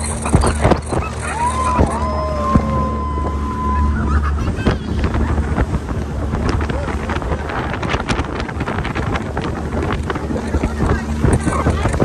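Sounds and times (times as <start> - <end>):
motorboat rumble: 0.0 - 12.0
wind buffeting microphone: 0.0 - 12.0.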